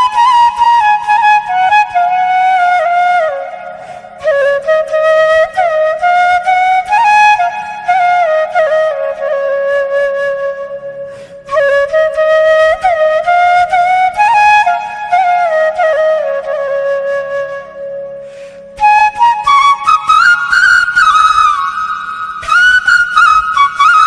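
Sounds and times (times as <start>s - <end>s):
flute-like melody: 0.0s - 24.0s.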